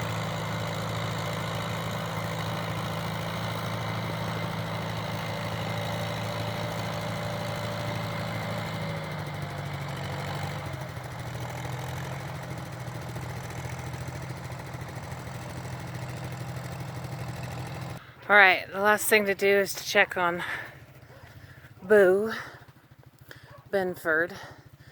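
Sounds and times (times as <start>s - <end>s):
tractor engine idling: 0.0s - 24.9s.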